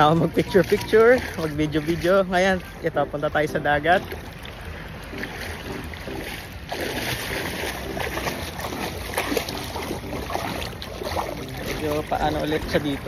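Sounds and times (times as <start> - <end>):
surf: 0.0 - 13.0
wind: 0.0 - 13.0.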